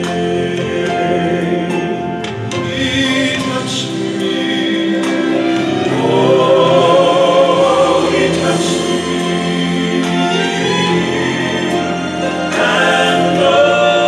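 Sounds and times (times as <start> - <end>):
hymn sung with musical backing: 0.0 - 14.0.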